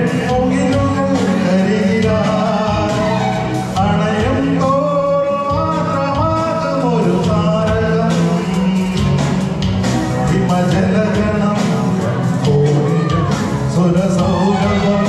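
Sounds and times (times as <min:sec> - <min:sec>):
backing track with steady beat: 0:00.0 - 0:15.0
man singing into microphone: 0:00.0 - 0:15.0.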